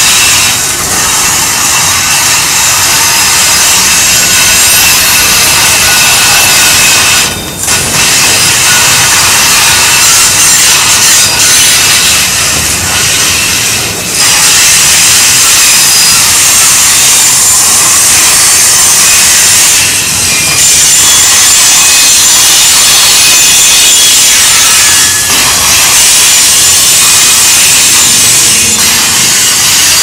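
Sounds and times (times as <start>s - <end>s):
train wheels squealing on rail: 0.0s - 30.0s.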